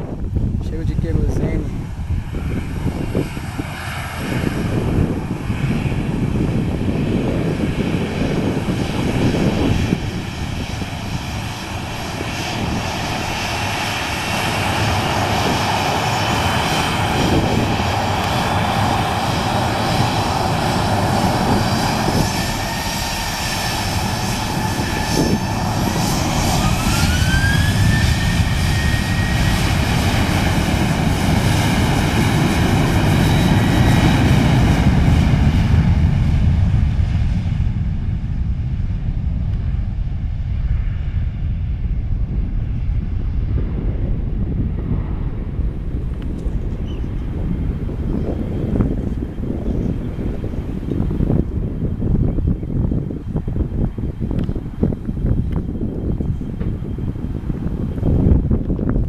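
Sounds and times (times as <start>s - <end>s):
jet engines running: 0.0s - 59.0s
engine whine rising: 1.0s - 51.7s.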